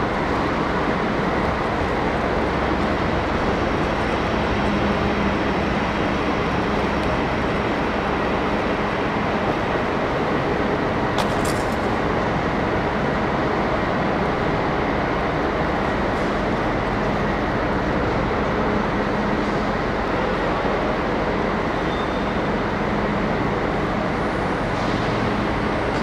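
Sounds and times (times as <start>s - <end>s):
train rumbling on tracks: 0.0s - 26.0s.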